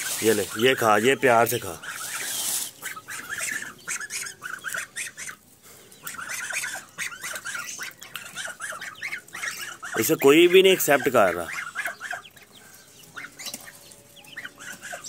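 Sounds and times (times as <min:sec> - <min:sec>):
poultry chirping and calling: 0:00.0 - 0:15.0.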